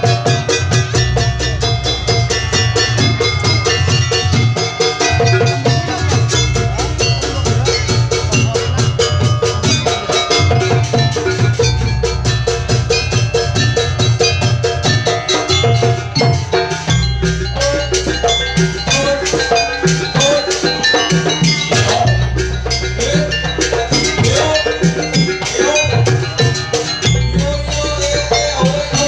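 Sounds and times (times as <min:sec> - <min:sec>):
drums beating fast rhythm: 0:00.0 - 0:29.0
ringing gong-chimes and bells: 0:00.0 - 0:29.0.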